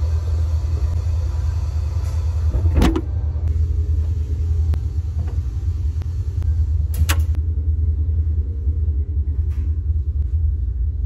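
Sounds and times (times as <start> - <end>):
laundromat machines rumbling: 0.0 - 11.0.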